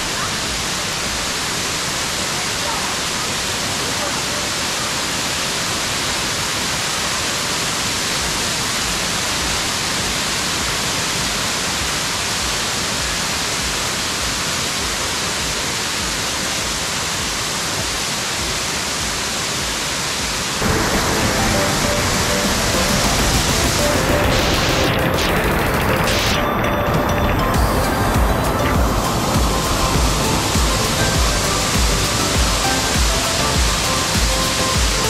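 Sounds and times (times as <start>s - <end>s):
waterfall rushing hiss: 0.0s - 35.0s.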